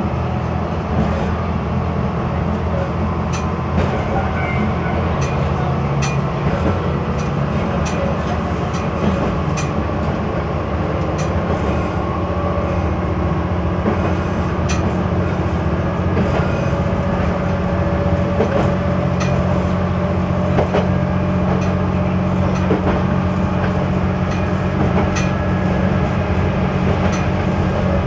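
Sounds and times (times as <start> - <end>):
diesel railcar engine drone: 0.0 - 28.0
wheels clicking over rail joints: 2.4 - 12.1, 13.7 - 28.0.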